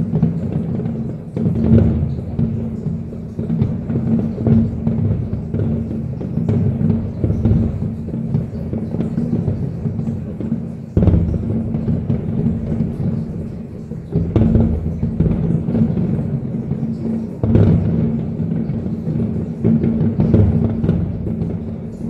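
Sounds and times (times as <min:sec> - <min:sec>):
fireworks booms: 0:00.0 - 0:22.0
sharp fireworks cracks: 0:00.0 - 0:22.0.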